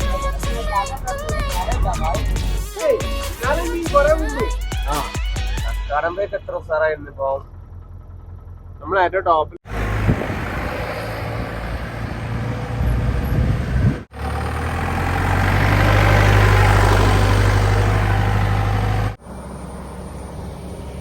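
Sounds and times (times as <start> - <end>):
jeep engine running: 0.0 - 21.0.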